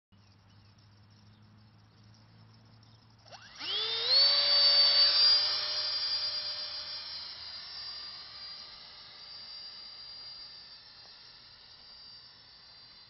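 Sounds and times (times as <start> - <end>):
small electric motor whine: 0.2 - 13.0.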